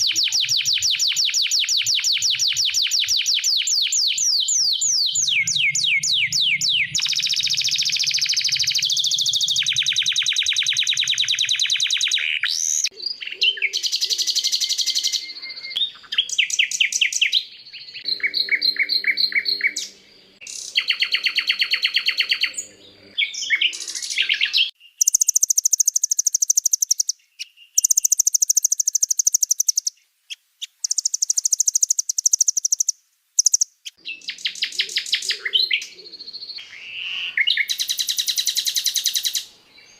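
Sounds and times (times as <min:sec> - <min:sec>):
songbird trills and chattering: 0:00.0 - 0:30.0, 0:30.6 - 0:39.9.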